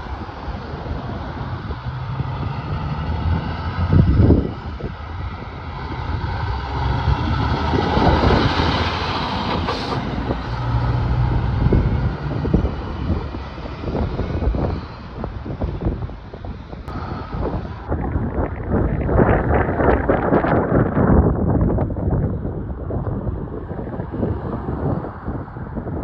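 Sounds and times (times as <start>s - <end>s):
truck diesel engine passing: 0.0s - 20.8s.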